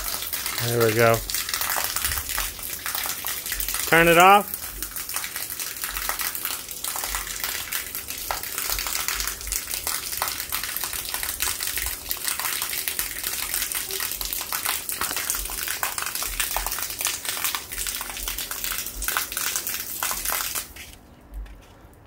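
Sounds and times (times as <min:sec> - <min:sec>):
water gushing and splashing: 0:00.0 - 0:21.0.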